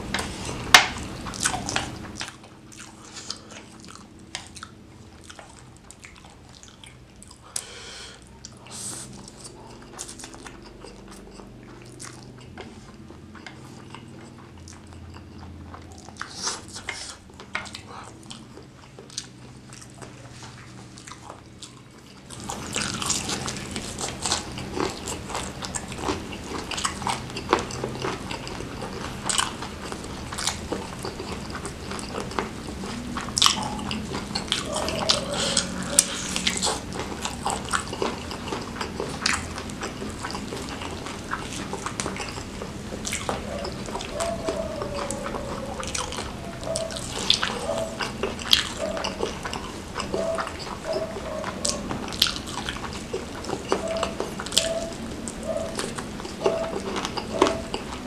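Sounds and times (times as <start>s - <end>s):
wet chewing mouth sounds: 0.0s - 58.0s.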